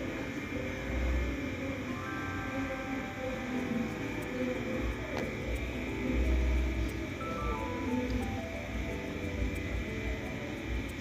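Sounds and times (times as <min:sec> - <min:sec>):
music of sustained notes: 0:00.0 - 0:11.0.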